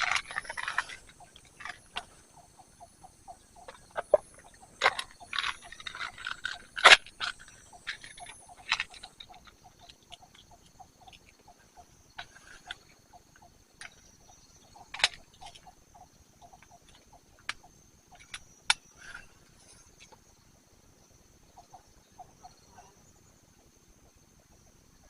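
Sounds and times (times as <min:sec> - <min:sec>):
high insect drone: 0:00.0 - 0:25.0
low repeated chirping: 0:00.0 - 0:25.0.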